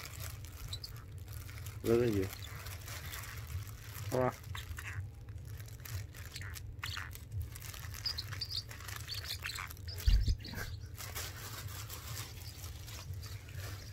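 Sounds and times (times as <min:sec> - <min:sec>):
parrotlet chirping: 0:00.0 - 0:13.9
plastic bag crackling: 0:00.0 - 0:13.9.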